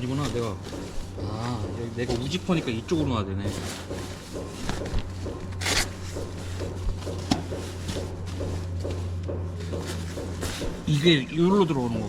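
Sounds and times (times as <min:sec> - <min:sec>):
faint rhythmic pulsing: 0:00.0 - 0:12.0
steady low hum: 0:00.0 - 0:12.0.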